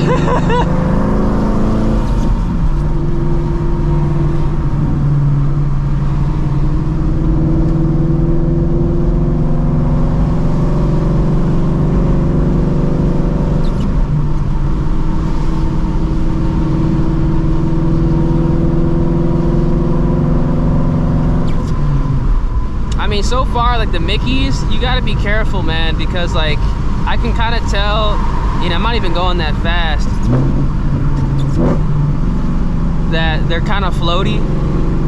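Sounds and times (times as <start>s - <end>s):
deep exhaust drone of cruising car: 0.0s - 35.0s.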